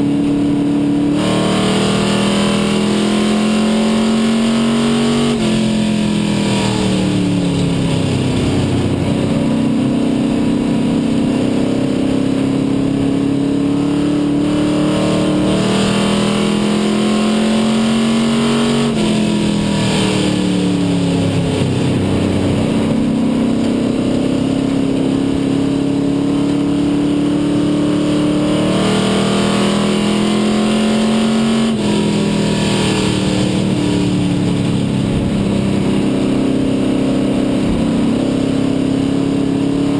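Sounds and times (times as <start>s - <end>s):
race car engine from cockpit: 0.0s - 39.9s.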